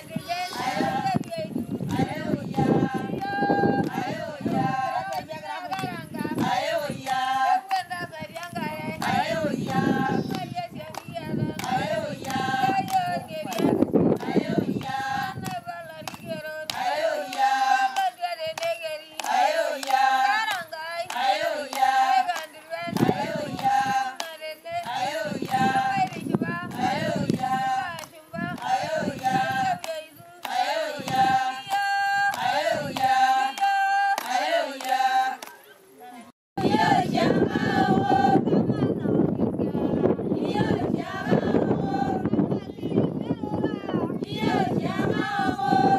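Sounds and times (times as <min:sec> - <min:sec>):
women singing together: 0:00.0 - 0:45.9.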